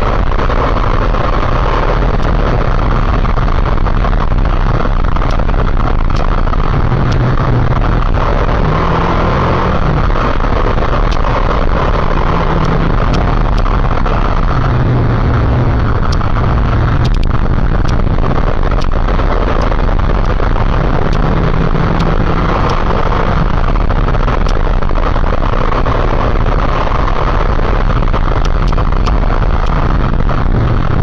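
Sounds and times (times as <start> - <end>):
motorcycle engine running: 0.0 - 31.0
wind on microphone: 0.0 - 31.0.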